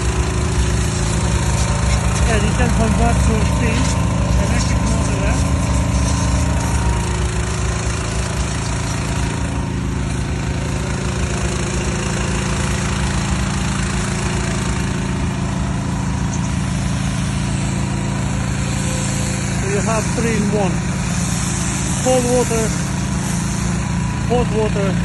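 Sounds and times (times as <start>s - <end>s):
pressure washer running: 0.0s - 25.0s.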